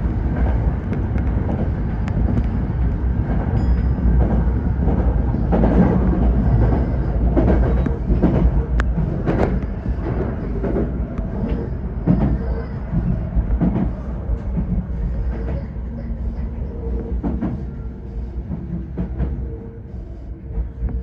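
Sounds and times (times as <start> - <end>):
electric train rumbling on rails: 0.0 - 21.0.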